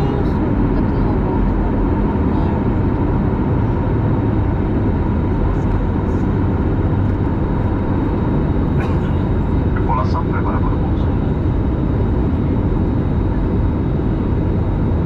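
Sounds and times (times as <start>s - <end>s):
faint steady whine: 0.0s - 15.0s
jet engines rumbling: 0.0s - 15.0s.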